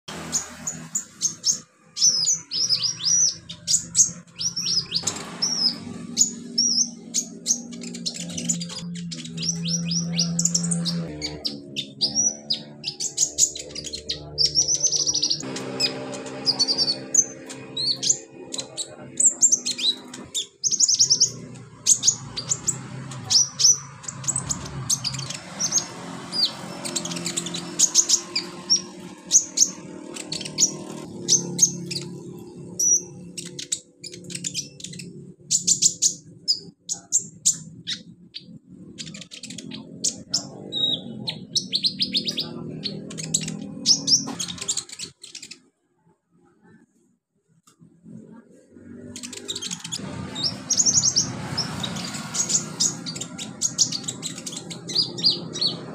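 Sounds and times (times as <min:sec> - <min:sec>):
sunbird singing high chirps: 0:00.1 - 0:45.6, 0:48.9 - 0:55.9.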